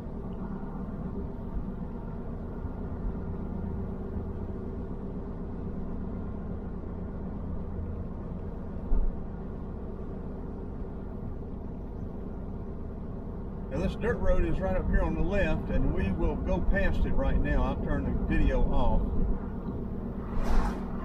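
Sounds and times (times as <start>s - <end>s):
car engine and road hum: 0.0s - 21.0s.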